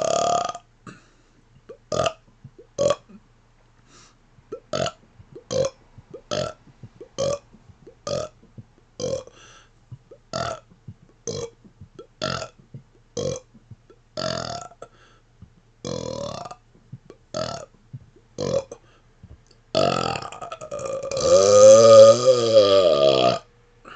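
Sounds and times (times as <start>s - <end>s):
man burping: 0.0s - 3.2s, 4.5s - 9.4s, 10.0s - 18.8s, 19.8s - 23.9s.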